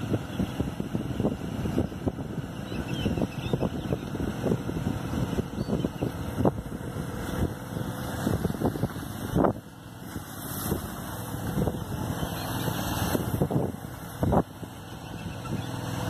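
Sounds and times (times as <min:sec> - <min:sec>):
tractor engine running: 0:00.0 - 0:16.0
water churning: 0:00.0 - 0:16.0.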